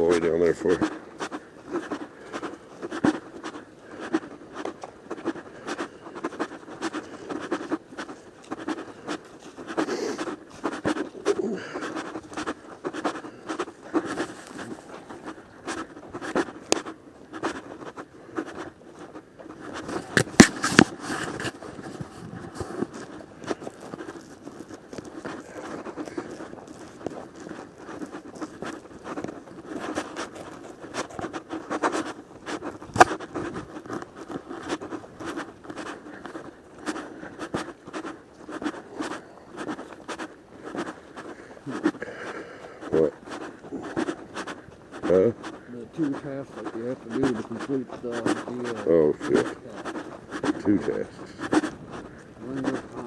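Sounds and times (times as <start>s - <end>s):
footsteps crunching on trail: 0.0s - 53.0s.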